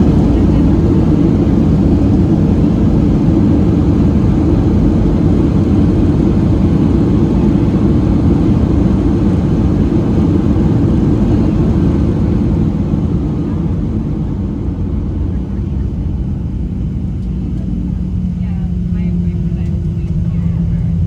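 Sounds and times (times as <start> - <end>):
jet engines and airflow in cabin: 0.0 - 21.0.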